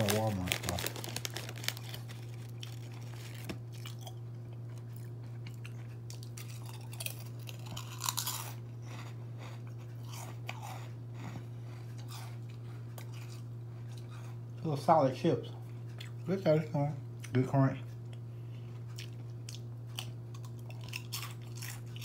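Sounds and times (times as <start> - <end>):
person chewing crunchy chips: 0.0 - 14.7, 17.2 - 22.0
steady low hum: 0.0 - 22.0.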